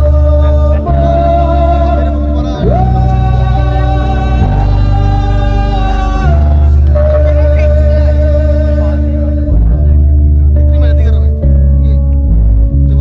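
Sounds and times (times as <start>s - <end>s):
held melody line: 0.0s - 13.0s
steady low drone: 0.0s - 13.0s.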